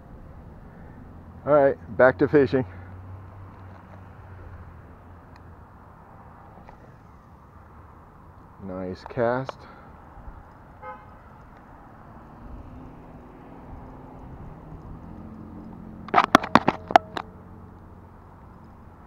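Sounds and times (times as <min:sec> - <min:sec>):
distant road traffic: 0:00.0 - 0:19.0.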